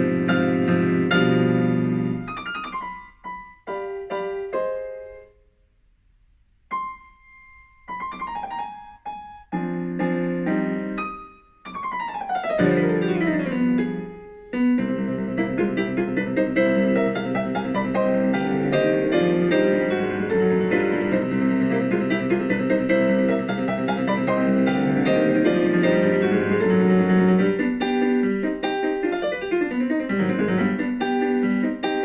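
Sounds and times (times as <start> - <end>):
piano music: 0.0 - 5.4, 6.7 - 32.0.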